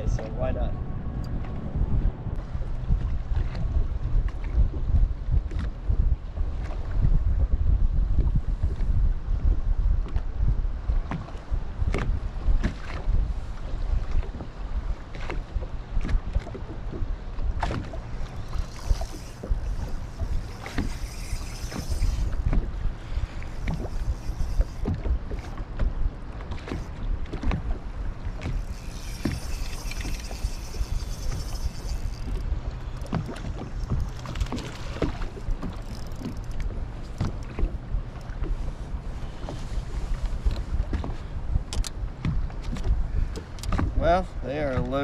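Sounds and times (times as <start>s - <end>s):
wind buffeting the microphone: 0.0s - 45.0s.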